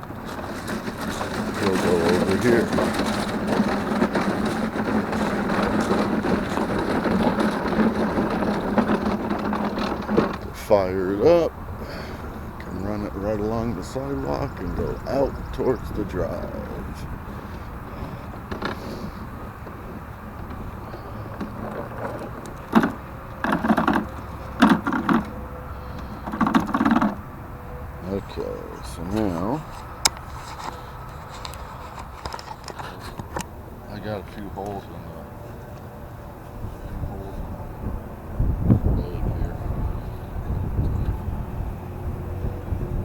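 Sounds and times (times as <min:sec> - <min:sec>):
wheels rolling and rattling: 0:00.0 - 0:43.0
yard vacuum humming: 0:00.0 - 0:43.0.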